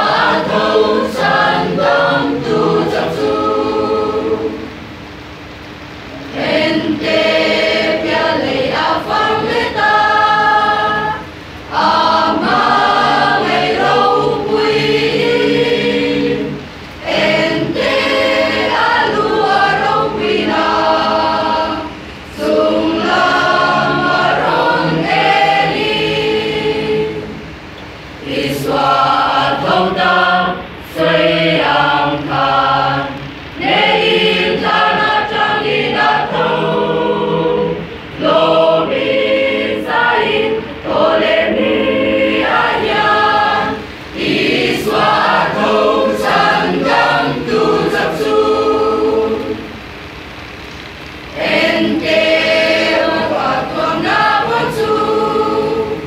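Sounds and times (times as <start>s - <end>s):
choir singing a hymn: 0.0s - 50.2s, 51.2s - 56.0s.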